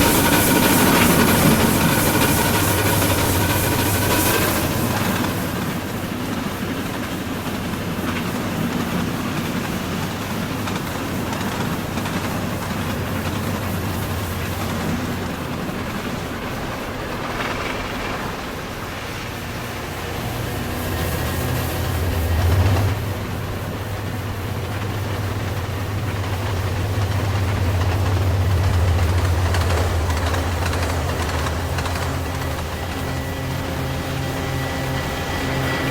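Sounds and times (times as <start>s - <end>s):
train rumbling along track: 0.0s - 35.9s.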